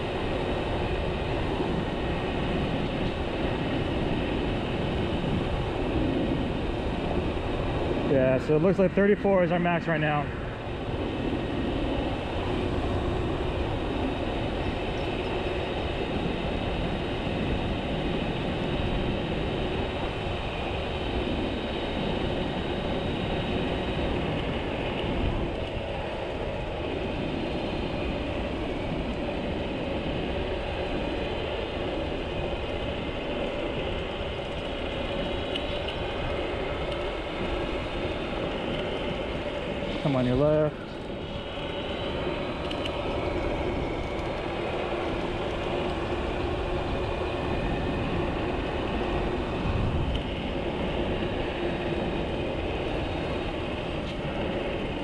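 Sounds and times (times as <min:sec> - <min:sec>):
scooter road noise: 0:00.0 - 0:55.0
wind rushing over microphone: 0:00.0 - 0:55.0.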